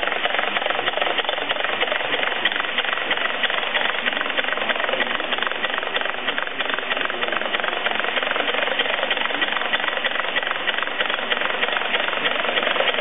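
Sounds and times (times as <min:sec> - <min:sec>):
motor rapid mechanical clatter: 0:00.0 - 0:13.0.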